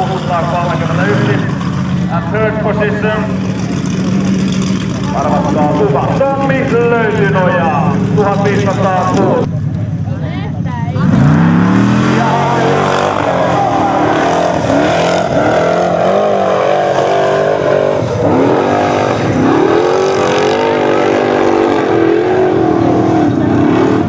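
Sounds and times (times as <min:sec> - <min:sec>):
off-road car engine revving hard: 0:00.0 - 0:09.5, 0:10.8 - 0:24.0.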